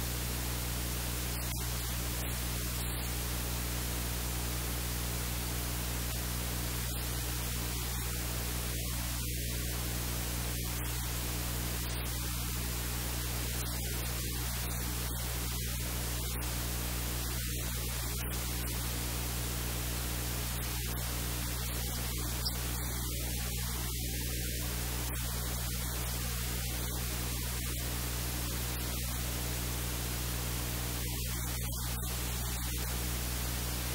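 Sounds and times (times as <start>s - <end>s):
low electrical hum: 0.0s - 33.9s
static hiss: 0.0s - 33.9s.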